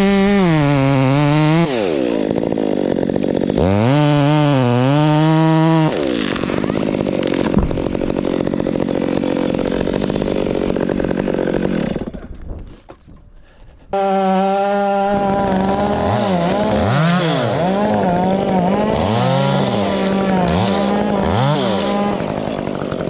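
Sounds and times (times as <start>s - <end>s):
chainsaw revving and idling: 0.0s - 12.3s, 13.9s - 23.0s.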